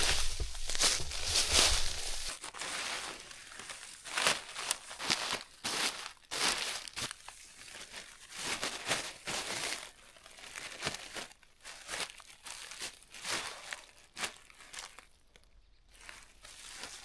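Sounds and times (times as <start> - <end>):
material crinkling and rustling: 0.0 - 17.0.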